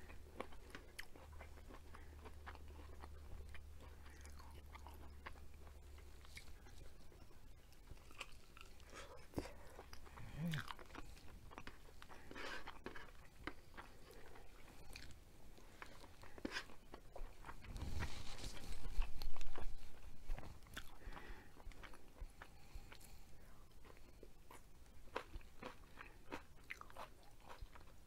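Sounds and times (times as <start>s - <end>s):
close chewing with mouth clicks: 0.0s - 28.0s.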